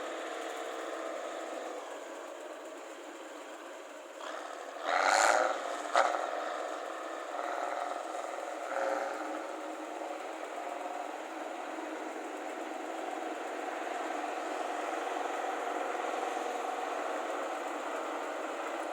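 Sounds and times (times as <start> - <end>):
harvester engine with loud exhaust: 0.0 - 18.9.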